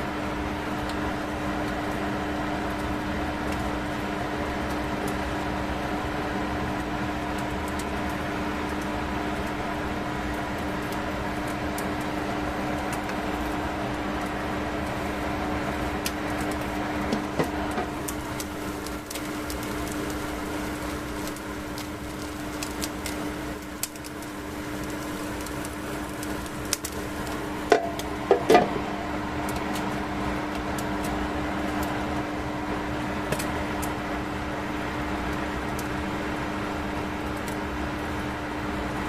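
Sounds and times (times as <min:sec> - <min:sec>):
microwave oven humming: 0:00.0 - 0:39.0.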